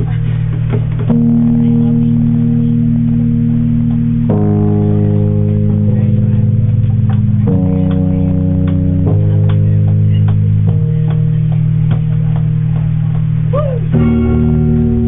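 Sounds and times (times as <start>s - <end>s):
band playing guitar and bass chords: 0.0s - 15.0s.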